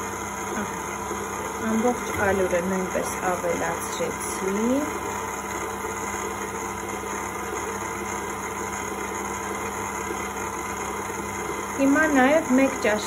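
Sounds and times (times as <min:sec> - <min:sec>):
stand mixer humming: 0:00.0 - 0:13.0.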